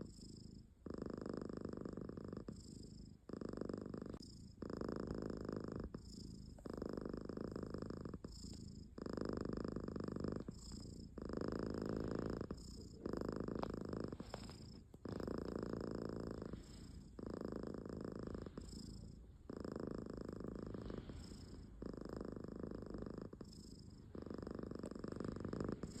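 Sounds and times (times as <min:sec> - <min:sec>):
cat snoring: 0:00.0 - 0:26.0.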